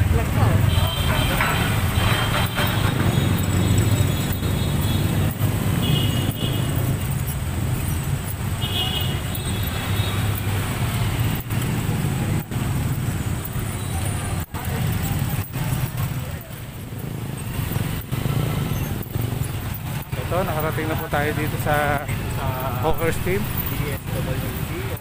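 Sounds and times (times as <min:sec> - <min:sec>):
motorcycles and cars rumbling: 0:00.0 - 0:25.0.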